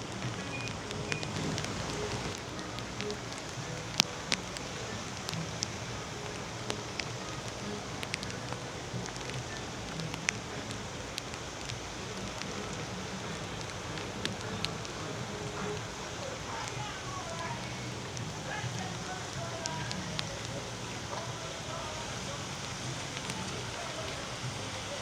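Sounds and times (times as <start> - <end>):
raindrop ticks: 0.0 - 25.0
steady rain falling: 0.0 - 25.0.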